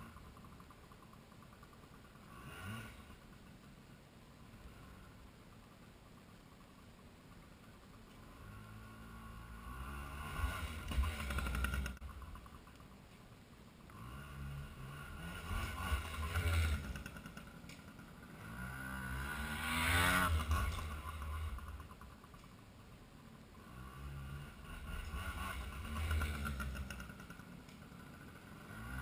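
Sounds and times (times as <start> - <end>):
two-stroke motorbike passing by: 0.0 - 3.7, 7.6 - 12.9, 13.8 - 22.6, 23.2 - 29.0.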